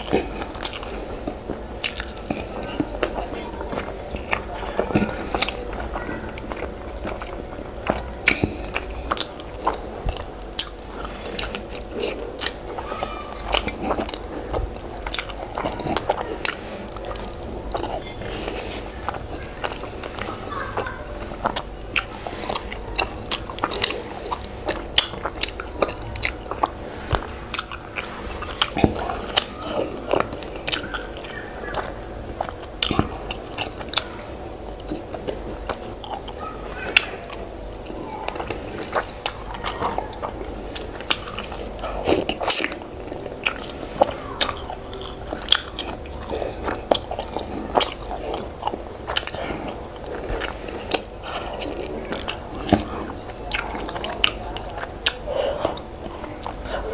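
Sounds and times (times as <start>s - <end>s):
person chewing and smacking: 0.0s - 56.9s.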